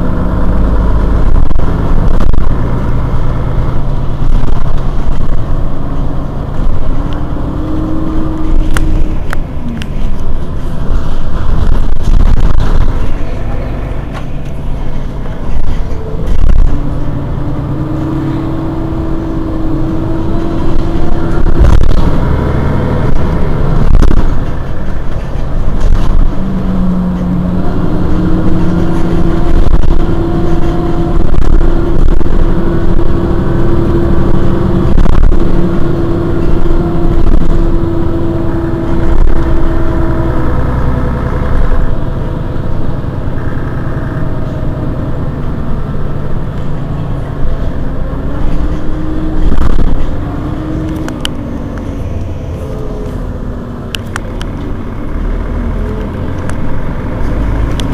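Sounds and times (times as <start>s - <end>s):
bus engine idling: 0.0s - 57.9s
humming tones: 0.0s - 57.9s.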